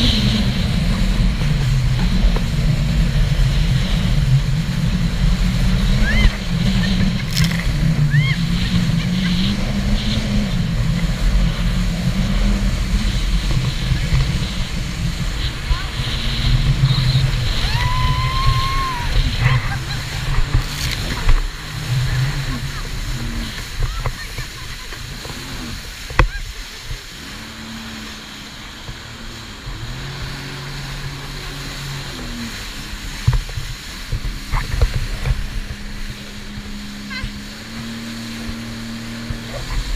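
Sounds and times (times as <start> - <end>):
jet ski engine droning: 0.0 - 39.9
wind buffeting microphone: 0.0 - 39.9.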